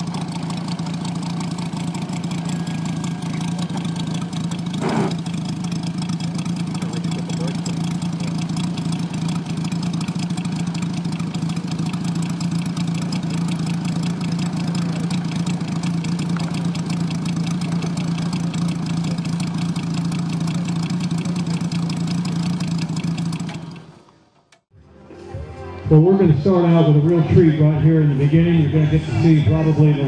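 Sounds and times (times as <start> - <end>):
radial engine idling: 0.0 - 24.4.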